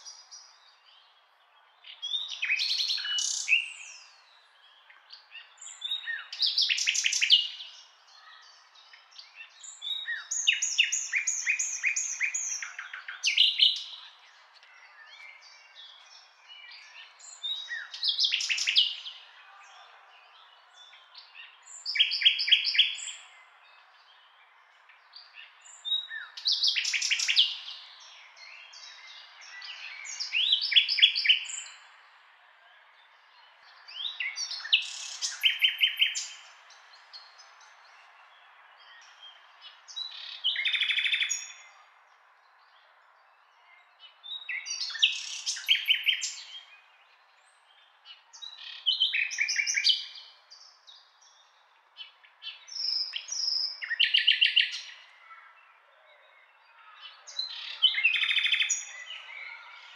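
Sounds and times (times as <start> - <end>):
songbird chirps and trills: 0.0 - 59.9.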